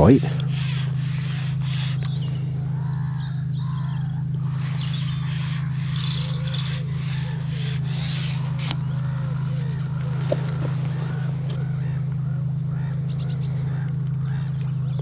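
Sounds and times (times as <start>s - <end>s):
birds calling: 0.0s - 15.0s
steady low hum: 0.0s - 15.0s.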